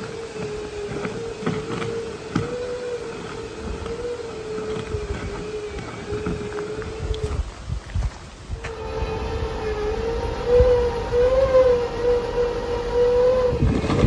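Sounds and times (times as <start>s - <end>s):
winch whining under load: 0.0s - 7.7s, 8.5s - 14.0s.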